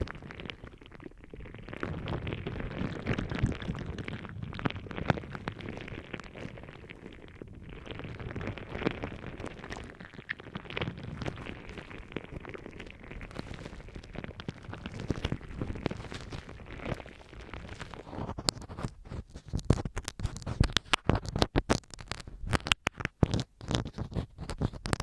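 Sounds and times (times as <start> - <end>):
gel balls squelching and crackling: 0.0 - 25.0.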